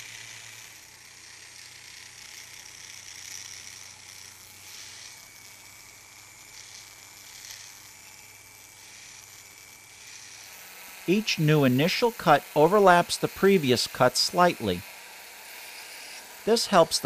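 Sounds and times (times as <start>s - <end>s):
rotary carving tool cutting wood: 0.0s - 17.0s.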